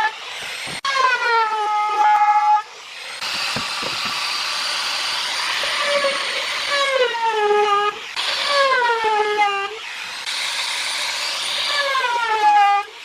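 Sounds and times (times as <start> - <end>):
power tool whining: 0.0 - 13.0
tool cutting into wood: 0.0 - 13.0.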